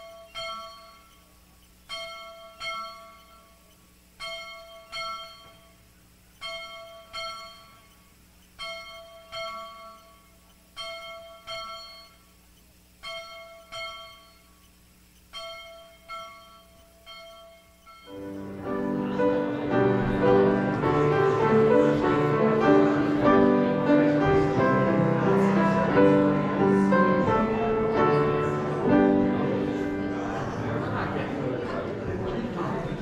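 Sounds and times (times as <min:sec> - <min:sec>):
church bell ringing: 0:00.0 - 0:12.4, 0:13.0 - 0:14.7, 0:15.3 - 0:29.7.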